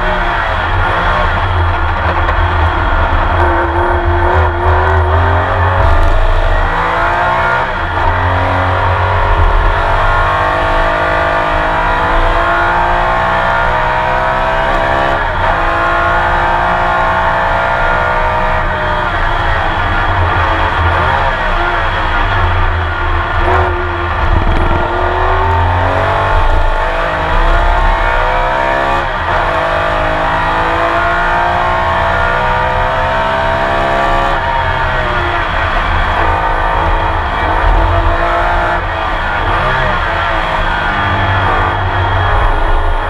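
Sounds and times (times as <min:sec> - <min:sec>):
racing engine revving: 0:00.0 - 0:43.0.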